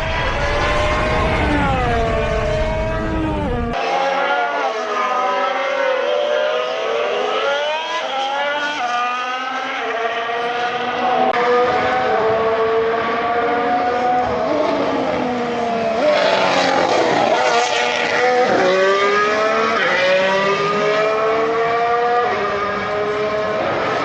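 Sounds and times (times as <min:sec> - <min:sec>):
race car engine upshifting: 0:00.0 - 0:24.0.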